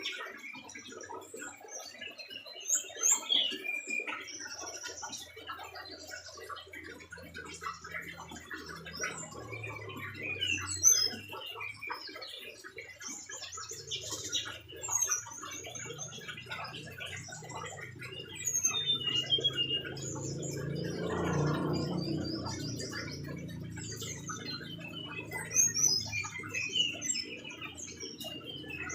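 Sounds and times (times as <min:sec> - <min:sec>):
bird singing chirps and whistles: 0:00.0 - 0:28.9.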